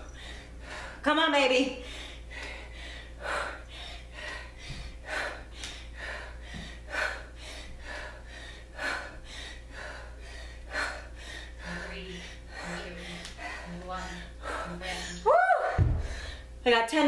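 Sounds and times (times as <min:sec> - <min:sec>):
woman breathing hard: 0:00.0 - 0:16.6.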